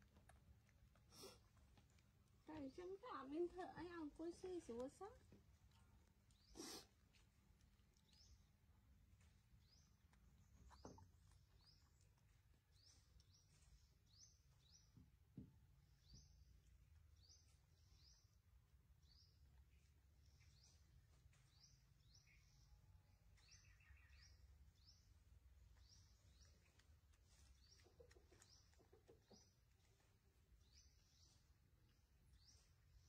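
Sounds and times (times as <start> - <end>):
faint bird chirping: 2.4 - 33.0.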